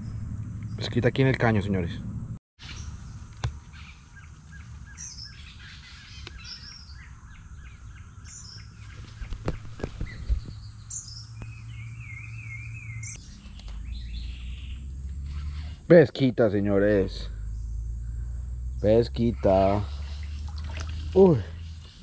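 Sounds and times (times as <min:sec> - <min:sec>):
steady low hum: 0:00.0 - 0:04.9, 0:07.0 - 0:22.0
birds chirping: 0:00.0 - 0:22.0.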